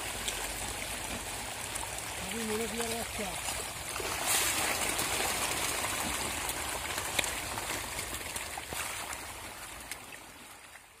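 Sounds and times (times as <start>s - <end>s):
fish splashing and slurping: 0.0s - 11.0s.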